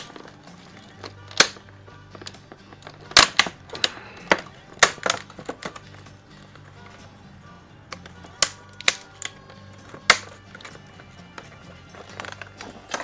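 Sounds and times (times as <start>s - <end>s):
plastic packaging cracking: 0.0s - 6.0s, 7.9s - 10.8s, 11.4s - 13.0s.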